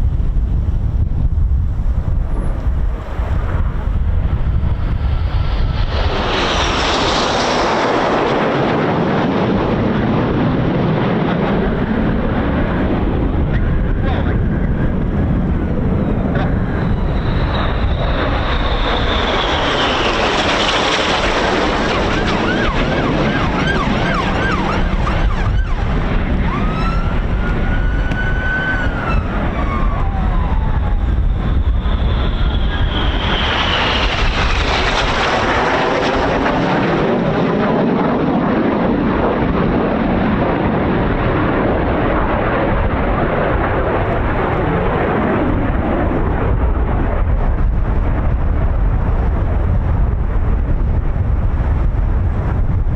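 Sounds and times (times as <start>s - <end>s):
wind buffeting microphone: 0.0s - 52.9s
jets flying past: 0.3s - 52.7s.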